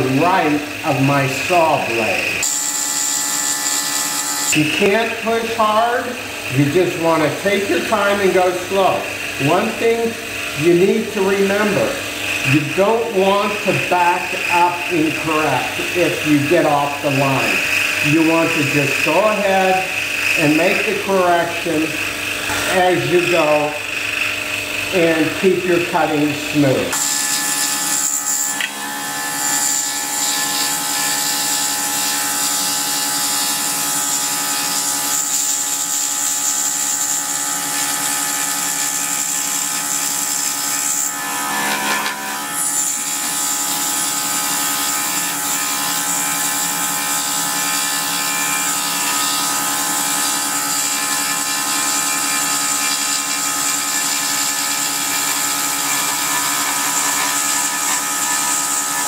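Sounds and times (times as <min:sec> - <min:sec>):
scroll saw cutting wood: 0:00.0 - 0:59.0.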